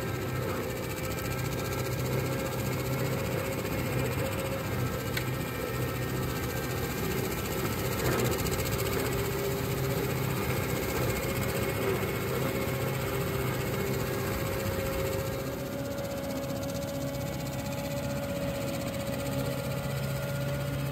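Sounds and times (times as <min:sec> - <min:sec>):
flail mower whine: 0:00.0 - 0:20.9
tractor diesel engine running: 0:00.0 - 0:20.9.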